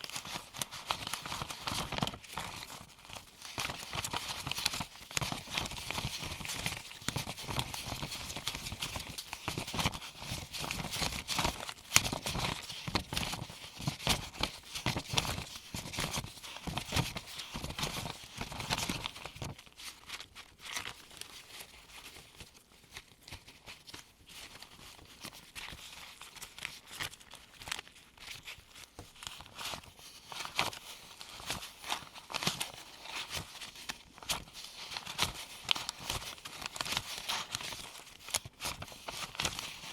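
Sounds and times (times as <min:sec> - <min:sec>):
paper bills flicking and rustling: 0:00.0 - 0:39.9.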